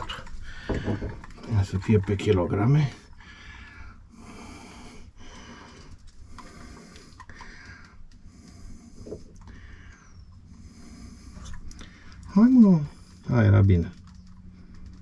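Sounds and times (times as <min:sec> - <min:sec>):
person breathing rhythmically: 0:00.0 - 0:01.5, 0:02.9 - 0:13.3, 0:14.2 - 0:15.0.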